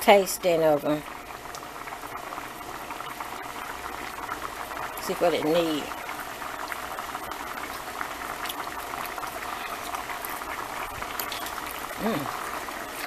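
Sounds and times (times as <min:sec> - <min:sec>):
pot boiling and bubbling: 0:00.0 - 0:13.0.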